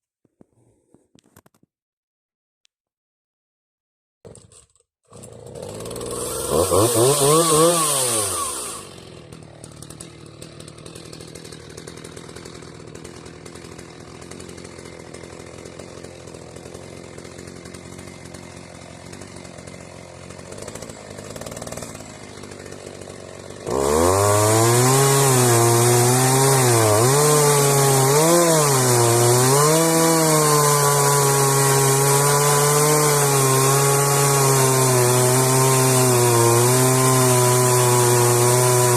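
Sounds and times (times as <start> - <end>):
chainsaw revving and sawing log: 4.3 - 38.9.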